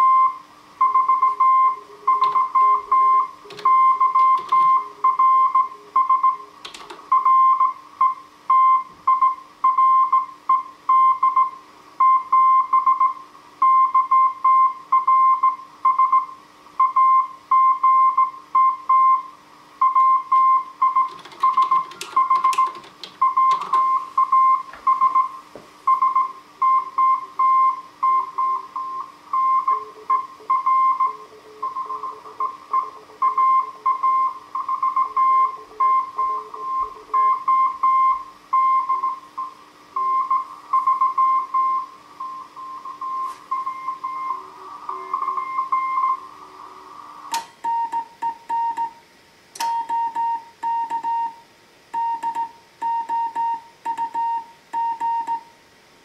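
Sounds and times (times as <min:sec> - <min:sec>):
morse code tone: 0:00.0 - 0:19.2, 0:19.8 - 0:46.3, 0:49.6 - 0:51.4, 0:52.0 - 0:55.5
fainter lower morse signal: 0:00.0 - 0:49.0, 0:49.6 - 0:55.5
steady hum: 0:00.0 - 0:56.0.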